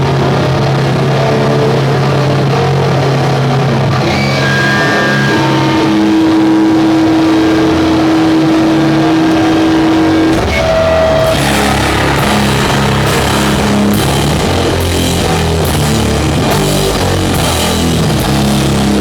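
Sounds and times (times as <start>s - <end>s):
distorted metal guitars and bass: 0.0s - 19.0s.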